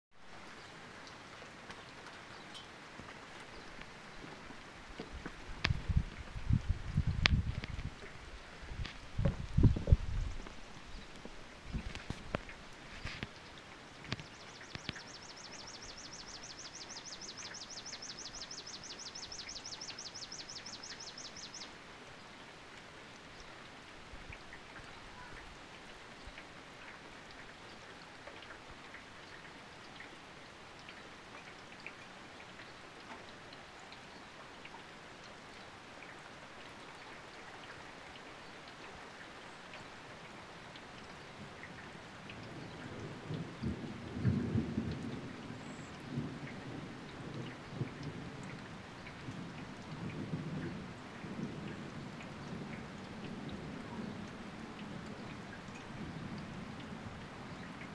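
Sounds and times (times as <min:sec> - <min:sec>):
light rain hiss: 0:00.1 - 0:57.9
raindrop ticks: 0:00.2 - 0:57.9.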